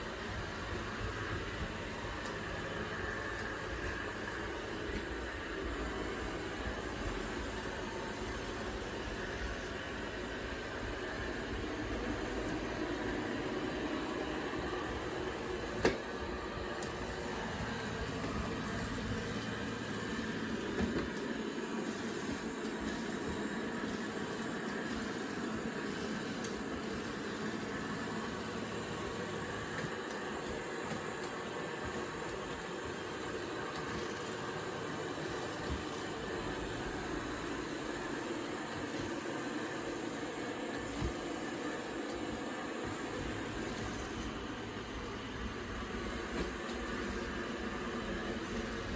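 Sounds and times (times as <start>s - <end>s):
robot vacuum cleaner whirring: 0.0s - 48.9s.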